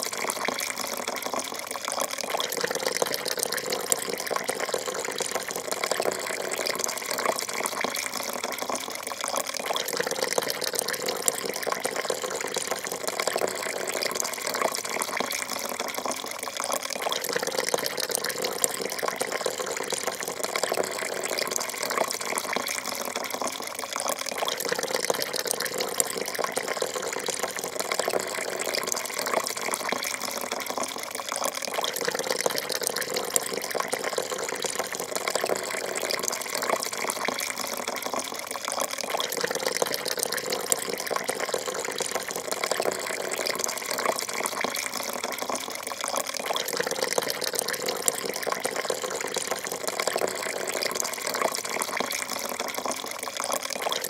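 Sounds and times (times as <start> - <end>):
coffee pouring into a cup: 0.0 - 54.0.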